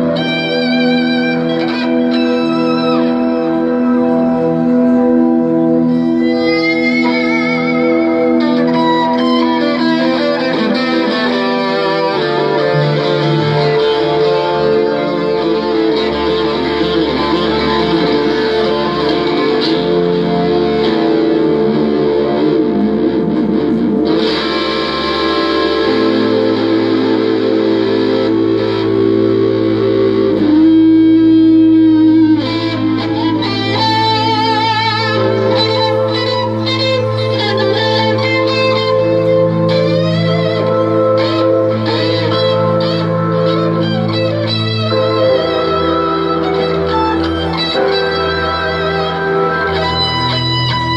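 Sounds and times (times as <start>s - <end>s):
electric guitar sustained notes: 0.0s - 50.9s.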